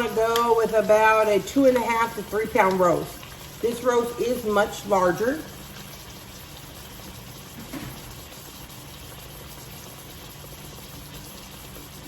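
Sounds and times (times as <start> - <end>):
meat sizzling in skillet: 0.0 - 12.0.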